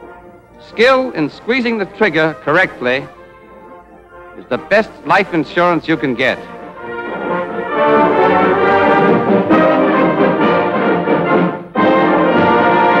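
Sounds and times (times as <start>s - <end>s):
orchestral music with brass: 0.0s - 13.0s.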